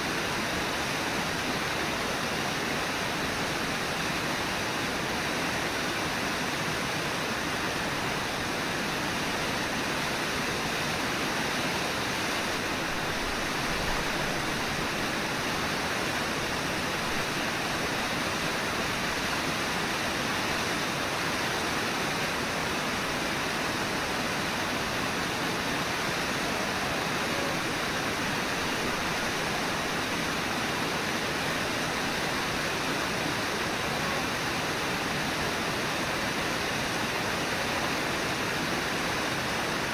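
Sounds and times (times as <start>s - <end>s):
river rushing over waterfall: 0.0s - 39.9s.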